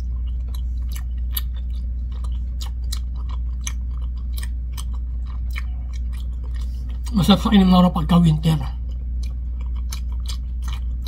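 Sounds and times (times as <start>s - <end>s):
steady low hum: 0.0s - 11.0s
wet chewing mouth clicks: 0.2s - 7.2s, 8.8s - 11.0s.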